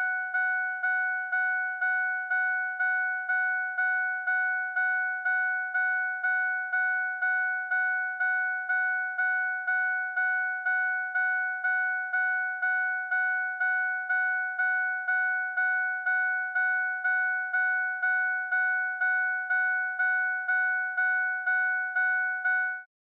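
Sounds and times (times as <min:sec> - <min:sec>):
vehicle door warning chime: 0:00.0 - 0:22.9.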